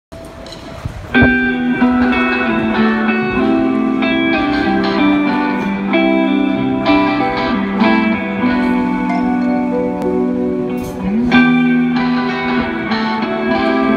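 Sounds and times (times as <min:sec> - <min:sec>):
electric guitar riff: 0:00.2 - 0:13.9.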